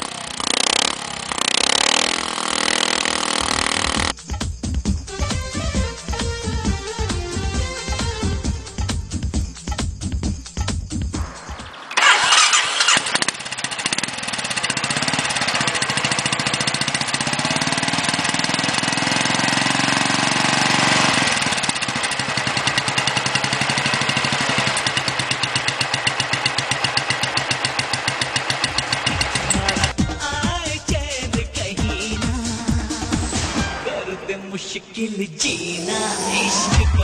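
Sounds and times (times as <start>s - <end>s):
motorcycle engine revving and idling: 0.0s - 33.4s.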